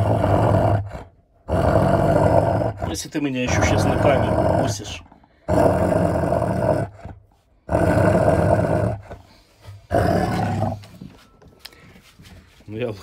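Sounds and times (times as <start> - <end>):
dog growling: 0.0 - 11.1.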